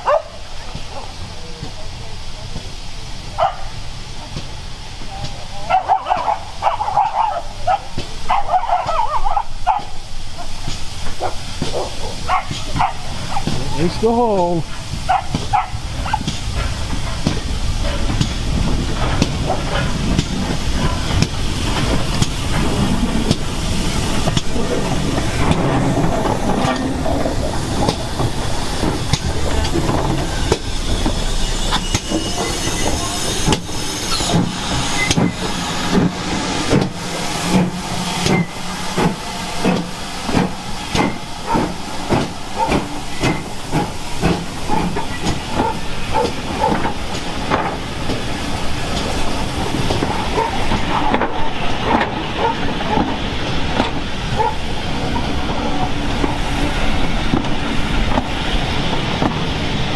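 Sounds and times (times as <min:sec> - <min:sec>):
steam locomotive hissing: 0:00.0 - 0:59.9
locomotive exhaust chuffing: 0:10.3 - 0:58.3.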